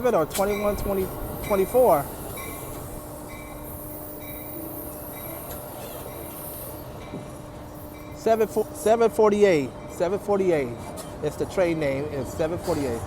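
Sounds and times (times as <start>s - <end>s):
train humming: 0.0s - 13.0s.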